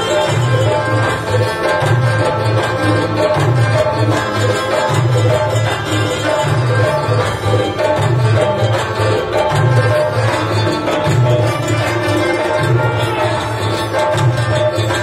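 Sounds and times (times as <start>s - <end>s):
fast hand-drum rhythm: 0.0s - 15.0s
keyboard melody: 0.0s - 15.0s.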